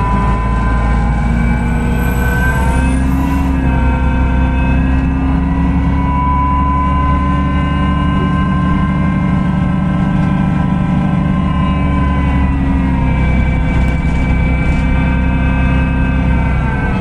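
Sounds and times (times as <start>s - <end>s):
bus diesel engine drone: 0.0s - 17.0s
engine whine: 0.0s - 17.0s.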